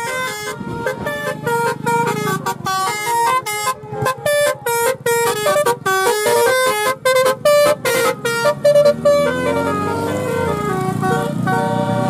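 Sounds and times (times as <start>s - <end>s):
vehicle horn playing a tune: 0.0s - 12.0s.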